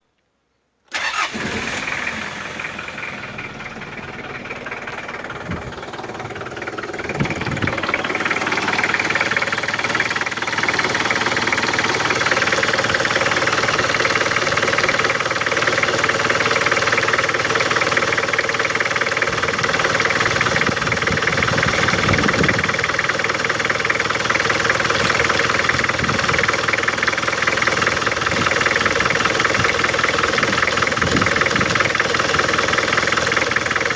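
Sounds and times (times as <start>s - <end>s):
diesel engine running: 0.9s - 33.9s.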